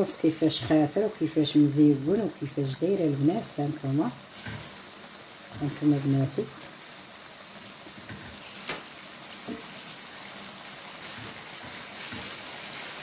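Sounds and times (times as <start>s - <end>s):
sauce bubbling in a pan: 0.0s - 13.0s.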